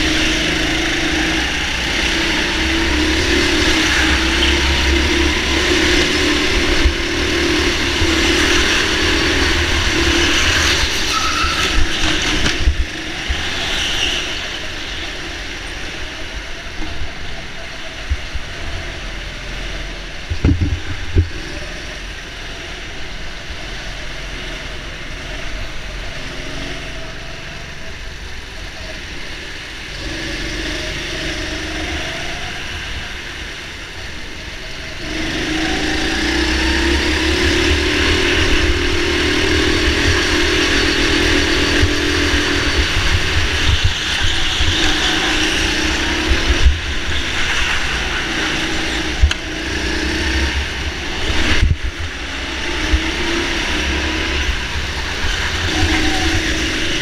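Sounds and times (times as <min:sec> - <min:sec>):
go-kart motor droning: 0:00.0 - 0:57.0.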